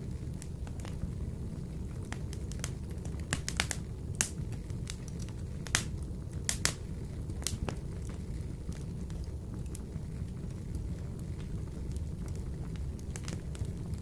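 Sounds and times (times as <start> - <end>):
fire crackling in a stove: 0.0 - 14.0.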